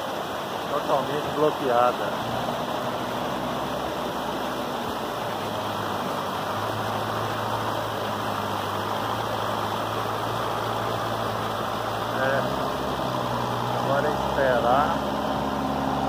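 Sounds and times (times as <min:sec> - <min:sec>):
floodwater rushing: 0:00.0 - 0:16.0
low engine hum: 0:00.0 - 0:16.0.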